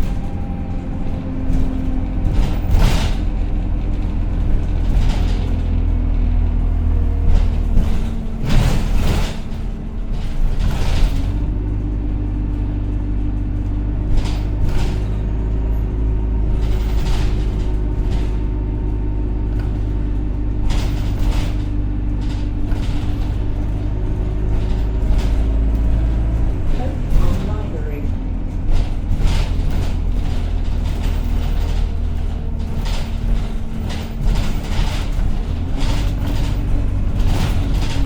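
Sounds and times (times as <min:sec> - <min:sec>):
bodywork rattles and clicks: 0:00.0 - 0:38.0
bus engine drone: 0:00.0 - 0:38.0.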